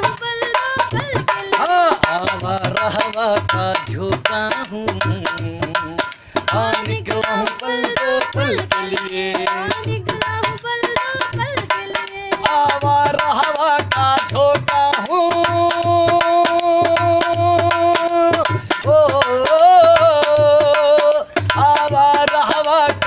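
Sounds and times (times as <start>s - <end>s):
barrel hand drum rhythm: 0.0s - 23.0s
person singing wordless melody: 0.0s - 23.0s.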